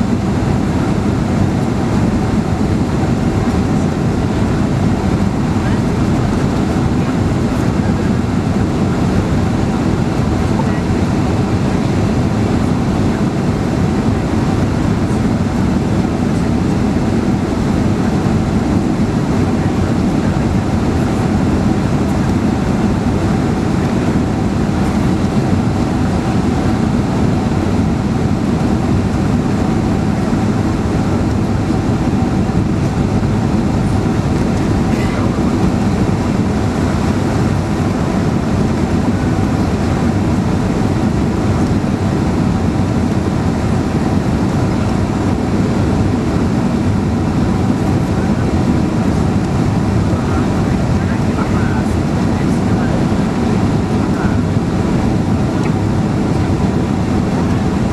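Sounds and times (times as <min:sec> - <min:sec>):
jet engines roaring: 0:00.0 - 0:57.9.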